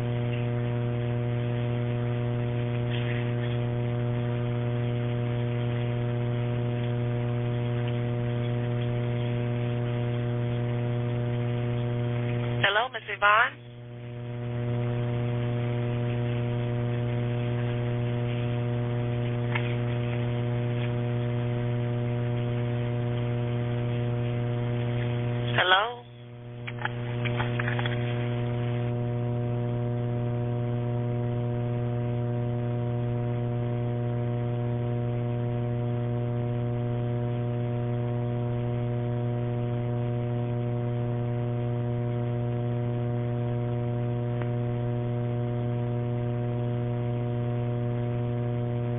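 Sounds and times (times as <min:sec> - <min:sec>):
electrical hum on telephone line: 0:00.0 - 0:48.9.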